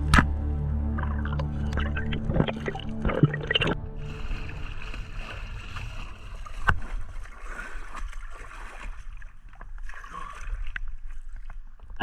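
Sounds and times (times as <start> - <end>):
water around a dinghy: 0.0 - 12.0.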